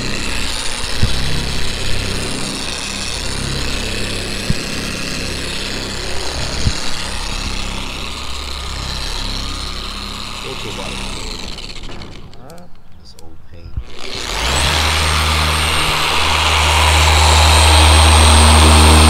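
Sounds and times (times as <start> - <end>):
orbital polisher whine: 0.0 - 12.4, 13.8 - 19.0.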